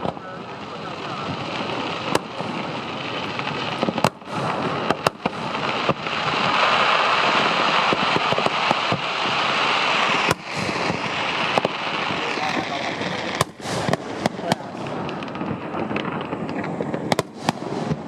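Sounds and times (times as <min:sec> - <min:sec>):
fireworks crackling: 0:00.0 - 0:18.0
fireworks shells bursting: 0:00.0 - 0:18.0.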